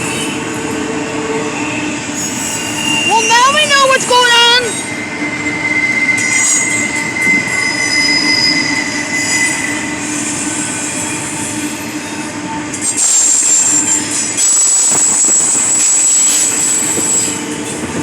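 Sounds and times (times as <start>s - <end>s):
train rumbling: 0.0s - 18.0s
train wheels squealing: 0.0s - 18.0s.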